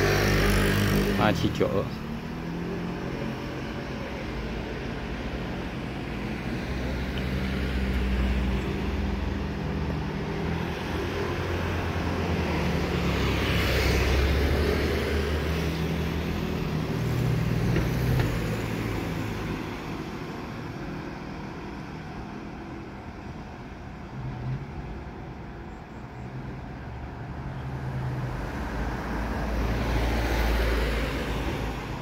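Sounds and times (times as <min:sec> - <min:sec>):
passing vehicles engine drone: 0:00.0 - 0:32.0.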